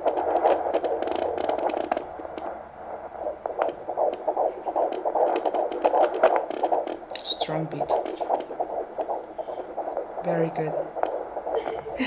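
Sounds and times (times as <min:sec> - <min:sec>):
scattered clicks: 0:00.0 - 0:02.6, 0:03.4 - 0:11.6
fetal heartbeat whoosh: 0:00.0 - 0:12.0.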